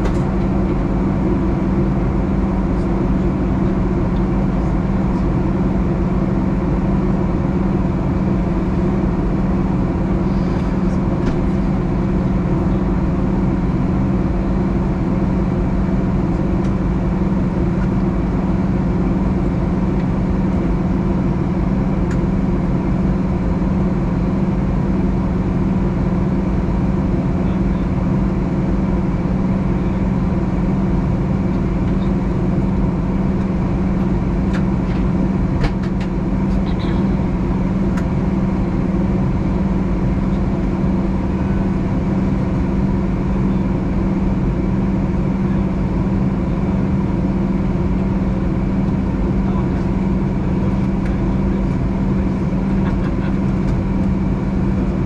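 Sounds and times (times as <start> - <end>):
constant low hum: 0.0 - 55.0
jet engine drone: 0.0 - 55.0.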